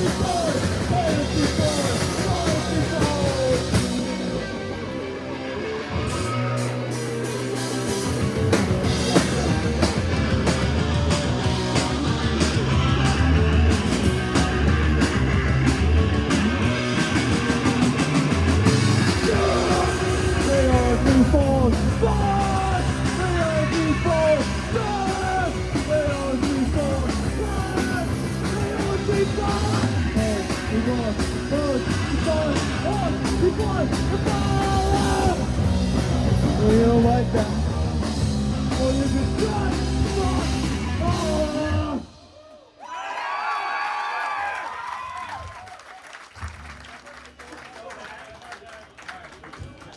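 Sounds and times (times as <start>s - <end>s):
punk rock band playing: 0.0s - 42.4s.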